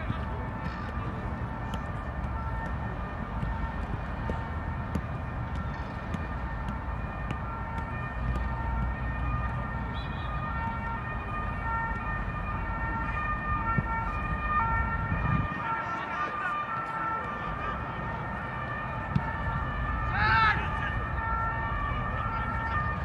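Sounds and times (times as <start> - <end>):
two-tone siren: 0.0 - 23.0.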